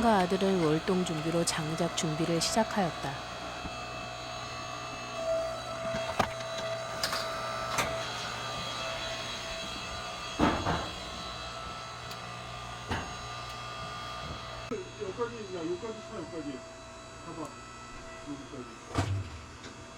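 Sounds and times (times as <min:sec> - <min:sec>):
motor humming: 0:00.0 - 0:19.9.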